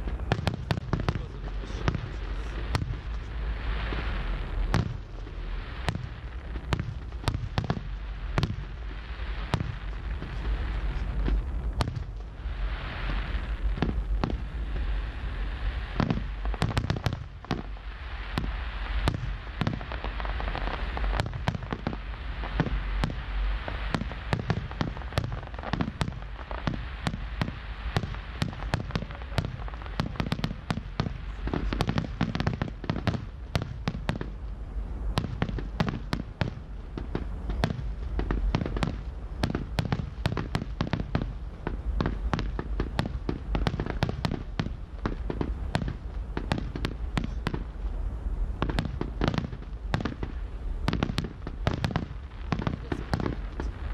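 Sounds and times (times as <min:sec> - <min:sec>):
continuous rushing noise: 0:00.0 - 0:53.9.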